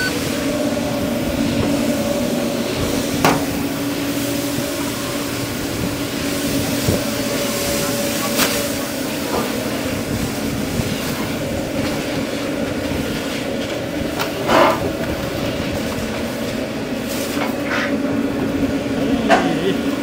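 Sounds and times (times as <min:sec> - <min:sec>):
mechanical equipment hum: 0:00.0 - 0:20.0.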